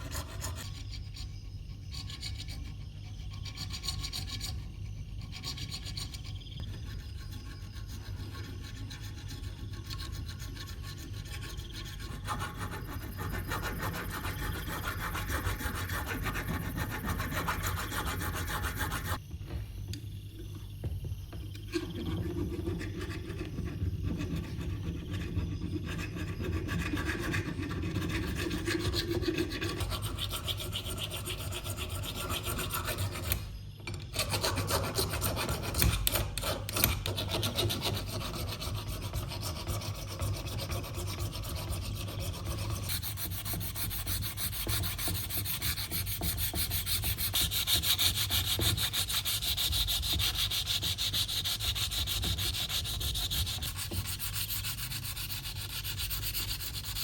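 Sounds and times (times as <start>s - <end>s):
abrasive sanding: 6.9s - 19.2s, 21.8s - 33.5s, 34.2s - 57.0s.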